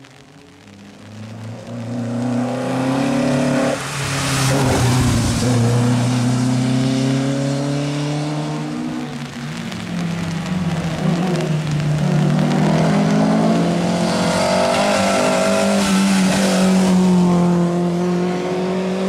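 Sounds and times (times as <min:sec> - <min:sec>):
rally car passing at full throttle: 0:01.0 - 0:19.0.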